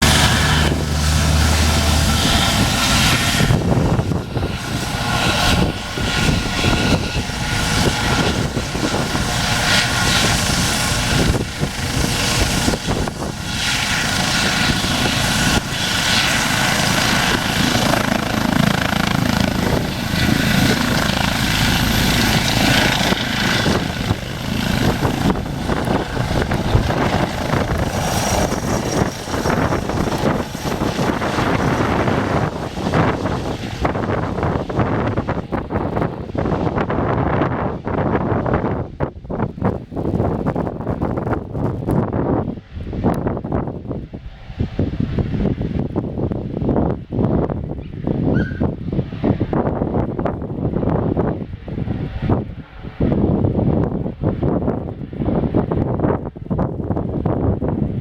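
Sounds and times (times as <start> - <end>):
helicopter turbine and rotor noise: 0.0 - 58.0.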